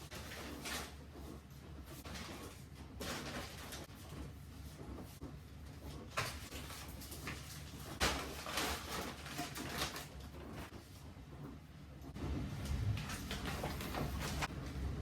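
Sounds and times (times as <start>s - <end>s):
rustling: 0.0s - 11.5s, 12.2s - 14.8s.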